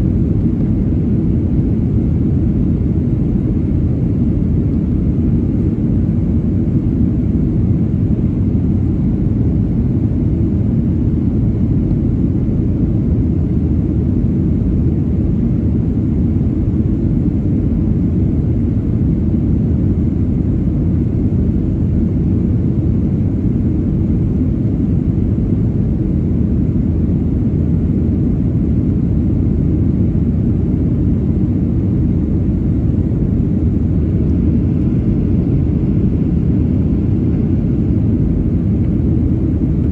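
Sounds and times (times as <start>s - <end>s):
jet airliner cabin roar: 0.0s - 39.9s.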